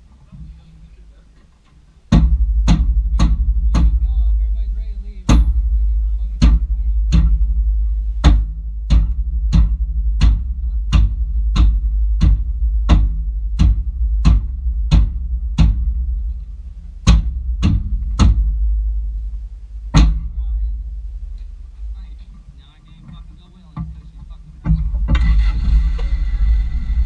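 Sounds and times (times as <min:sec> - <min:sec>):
engine idling rumble: 0:00.0 - 0:27.0.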